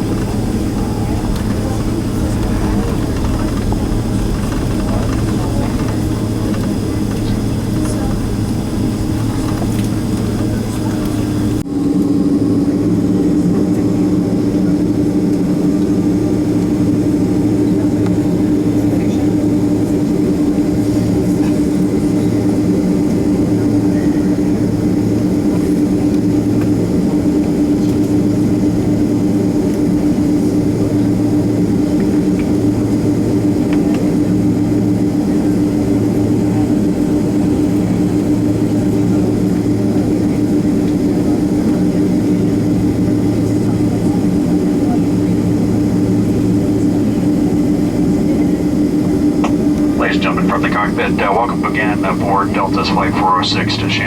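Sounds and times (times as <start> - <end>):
jet cabin drone: 0.0 - 54.0.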